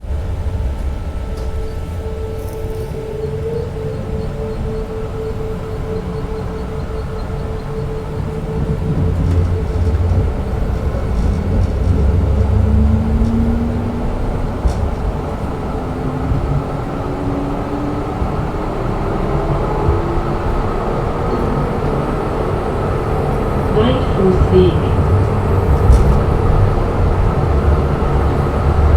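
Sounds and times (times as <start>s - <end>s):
tram running gear rumble: 0.0s - 28.9s.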